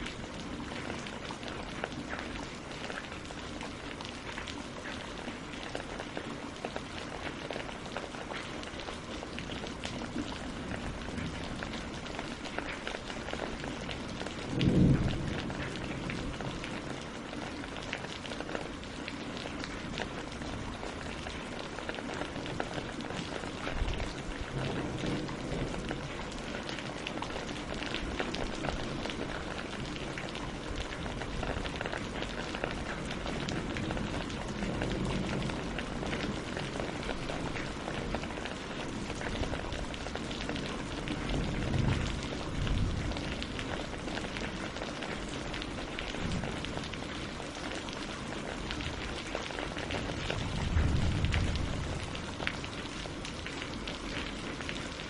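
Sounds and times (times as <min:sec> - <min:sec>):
rain on water and leaves: 0:00.0 - 0:55.0.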